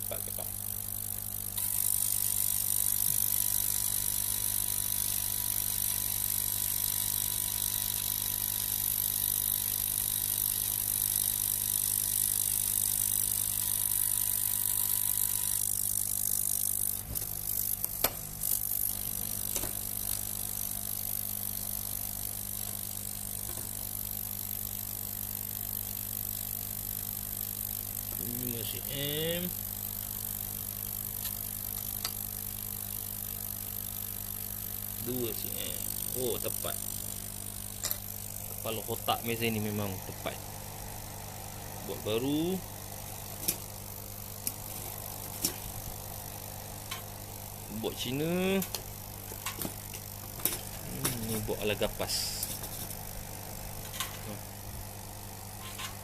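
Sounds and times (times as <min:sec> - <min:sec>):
low machine hum: 0:00.0 - 0:56.0
stepper motor whine: 0:00.0 - 0:56.0.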